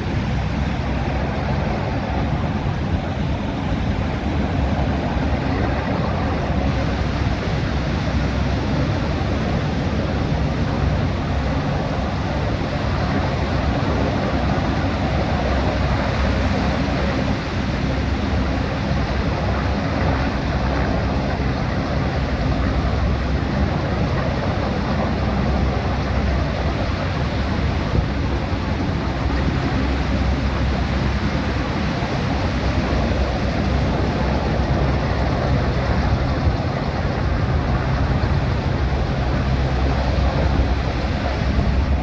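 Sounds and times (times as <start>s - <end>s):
helicopter drone: 0.0s - 42.0s
wind on microphone: 0.0s - 42.0s.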